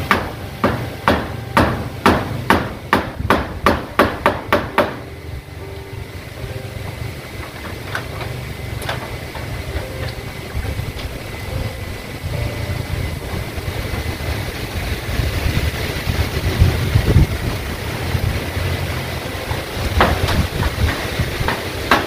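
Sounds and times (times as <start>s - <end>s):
steady hiss: 0.0s - 22.0s
wind gusting against microphone: 2.5s - 22.0s.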